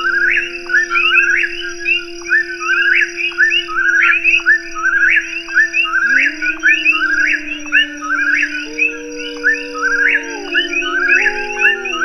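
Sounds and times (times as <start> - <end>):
ambient synthesizer pad: 0.0 - 12.0
frogs calling: 0.0 - 12.0.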